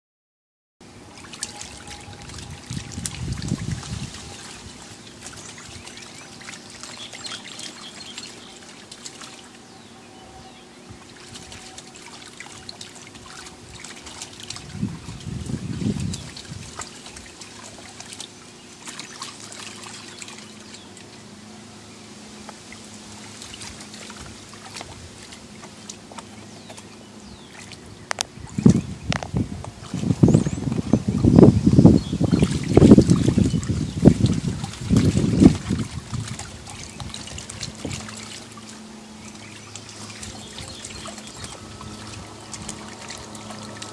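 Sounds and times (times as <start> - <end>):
water sloshing and splashing: 0.8 - 43.9.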